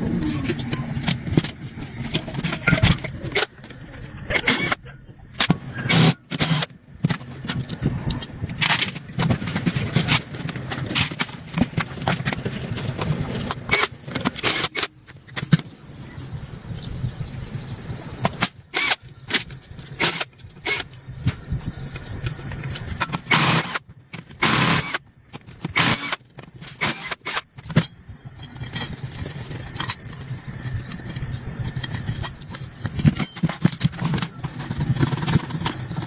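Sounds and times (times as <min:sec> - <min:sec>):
faint high whine: 0:00.0 - 0:36.0.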